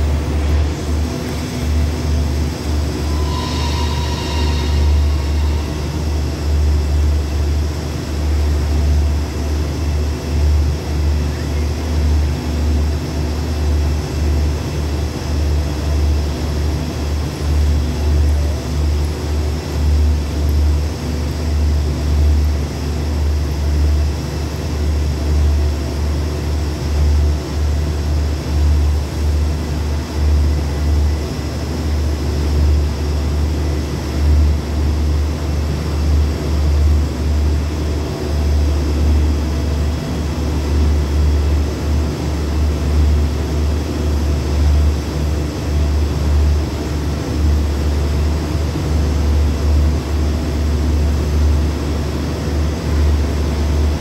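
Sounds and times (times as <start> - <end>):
diesel train rumble: 0.0 - 54.0.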